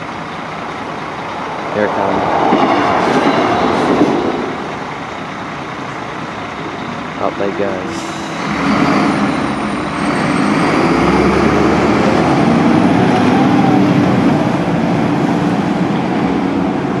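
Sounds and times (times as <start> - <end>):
diesel lorry pulling away: 0.0 - 17.0
road traffic: 0.0 - 17.0.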